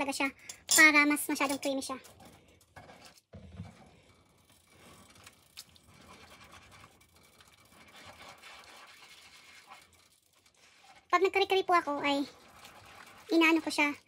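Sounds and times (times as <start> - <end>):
spatula scraping in pan: 1.4 - 14.0.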